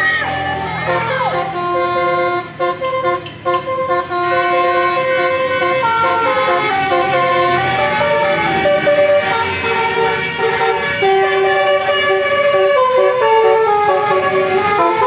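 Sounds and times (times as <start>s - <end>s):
bus horn playing a melody: 0.0s - 15.0s
vehicle engine rumbling: 0.0s - 15.0s.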